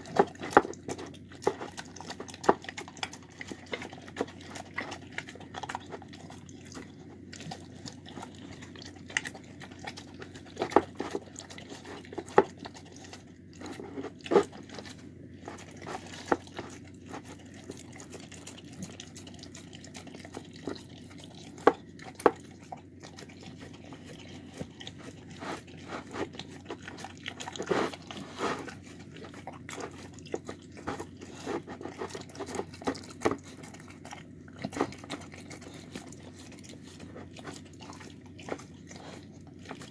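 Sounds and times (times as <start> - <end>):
dog lapping and smacking: 0.0 - 39.9.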